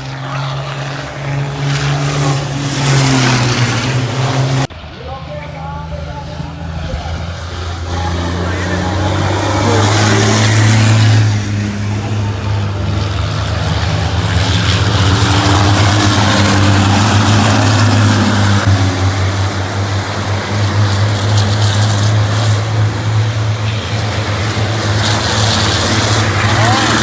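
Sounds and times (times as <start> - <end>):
engine pitch rising and falling: 0.0 - 27.0
racing engines droning: 0.0 - 27.0.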